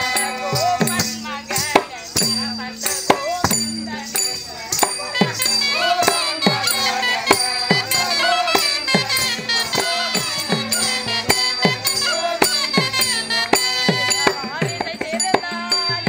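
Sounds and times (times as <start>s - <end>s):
ankle bells jingling: 0.0s - 16.0s
hand drum beats: 0.0s - 16.0s
small cymbals: 0.0s - 16.0s.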